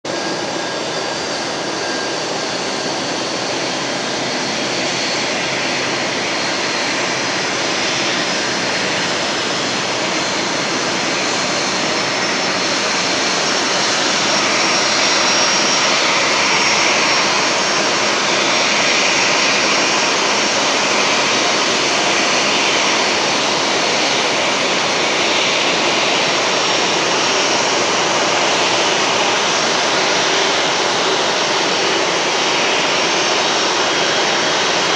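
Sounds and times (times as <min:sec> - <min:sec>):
jet engine running: 0:00.0 - 0:34.9.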